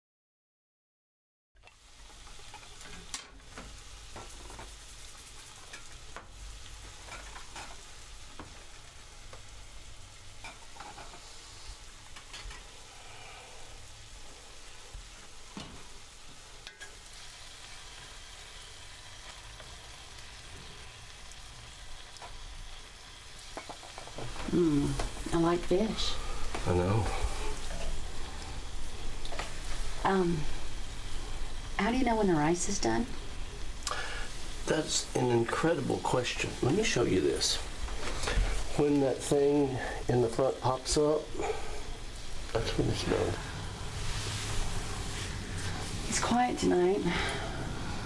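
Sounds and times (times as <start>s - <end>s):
food sizzling in a frying pan: 1.6s - 48.0s.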